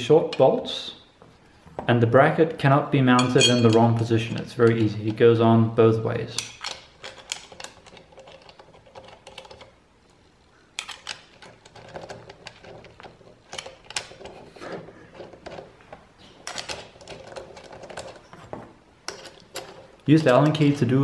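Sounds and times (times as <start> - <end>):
bolts clicking and scraping on metal: 3.2 - 5.4, 6.3 - 21.0.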